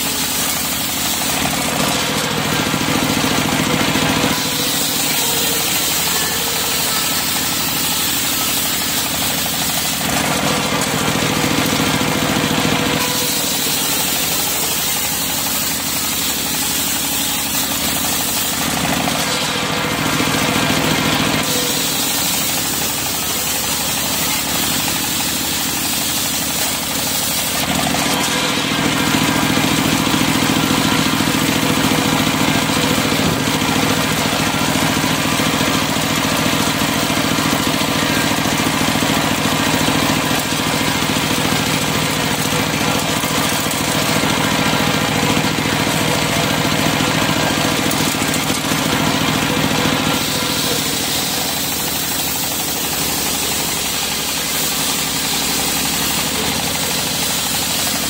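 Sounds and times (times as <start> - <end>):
circular saw blade ripping wood: 0.0 - 58.0
sawmill machine drone: 0.0 - 58.0.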